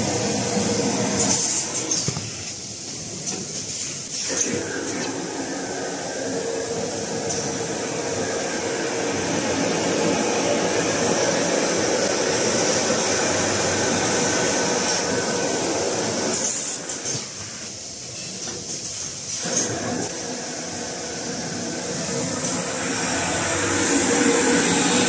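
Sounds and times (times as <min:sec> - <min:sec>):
machine humming and hissing: 0:00.0 - 0:25.0.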